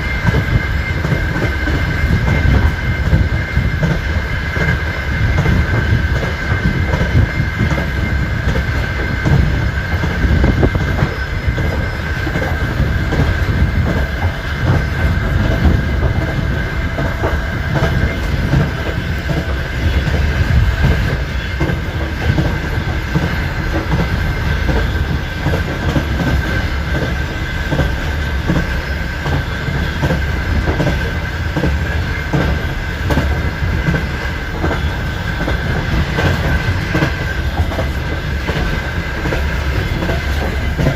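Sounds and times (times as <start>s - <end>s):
high-pitched whine: 0.0s - 40.9s
train wheels clattering: 0.0s - 40.9s.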